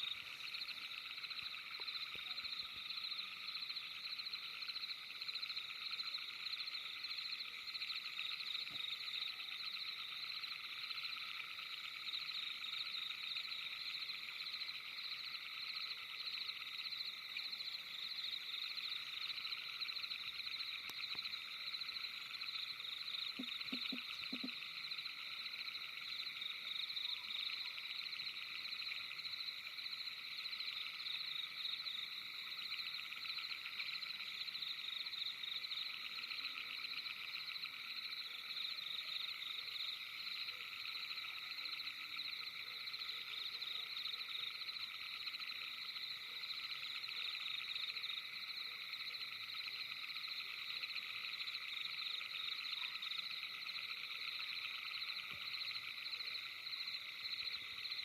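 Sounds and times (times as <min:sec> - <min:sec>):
frogs trilling: 0:00.0 - 0:58.0.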